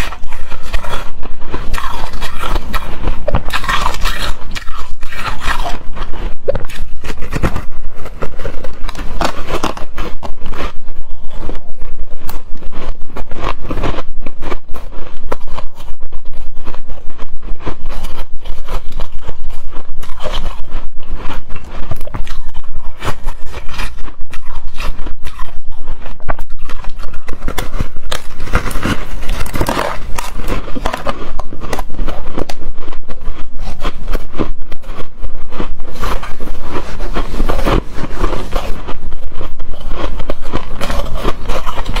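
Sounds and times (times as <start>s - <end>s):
ice being chewed: 0.0s - 15.9s, 17.9s - 42.0s.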